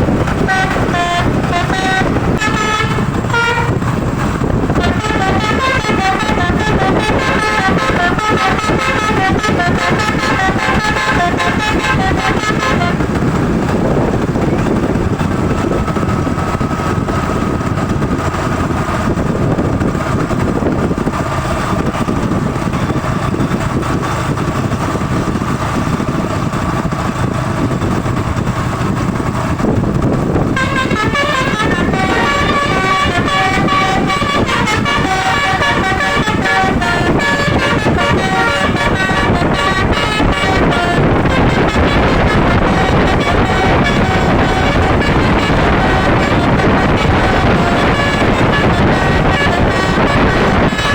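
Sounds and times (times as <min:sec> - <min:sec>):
multi-tone musical bus horn: 0:00.0 - 0:50.9
road and engine noise: 0:00.0 - 0:50.9.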